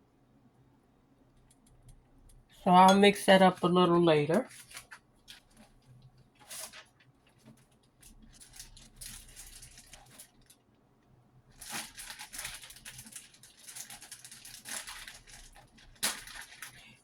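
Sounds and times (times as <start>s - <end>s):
rustling and scraping handling noise: 1.4s - 10.7s, 11.5s - 17.0s.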